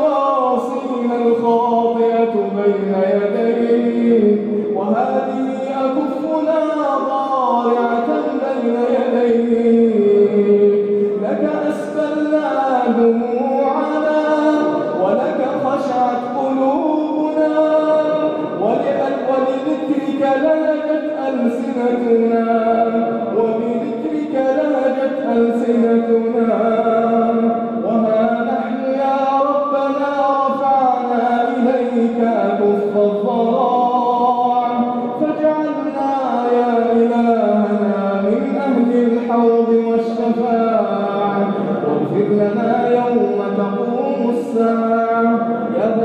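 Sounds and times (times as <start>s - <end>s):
man chanting melodically: 0.0s - 46.0s.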